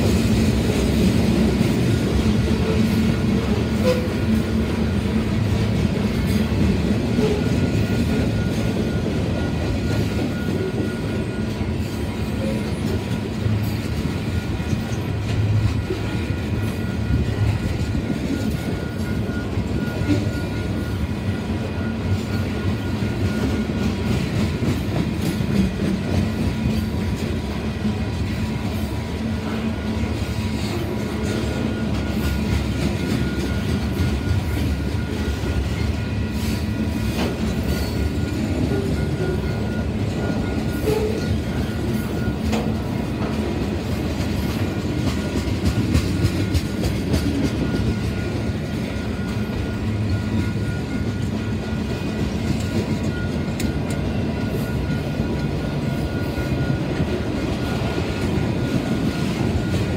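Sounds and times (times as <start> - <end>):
clickety-clack of rail joints: 0.0 - 59.9
freight train cars rumbling past: 0.0 - 59.9.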